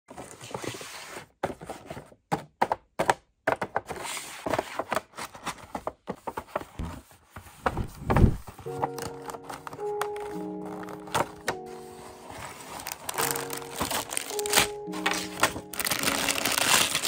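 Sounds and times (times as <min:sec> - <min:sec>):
cardboard boxes knocking and rustling: 0:00.1 - 0:11.6, 0:12.3 - 0:17.0.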